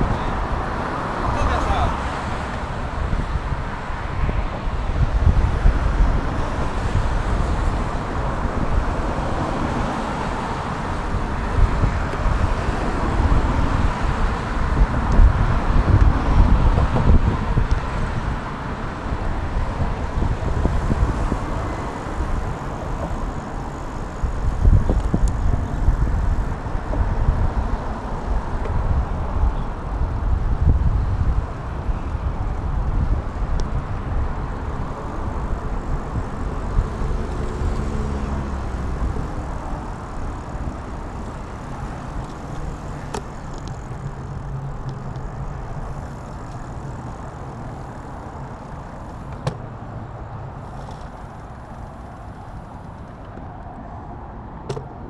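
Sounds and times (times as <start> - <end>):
wind buffeting microphone: 0.0 - 53.3
road and tyre noise hiss: 0.0 - 55.0.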